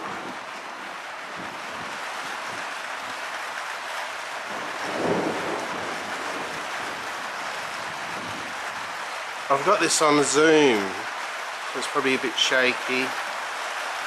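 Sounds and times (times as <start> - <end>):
rain falling with wind: 0.0 - 14.0.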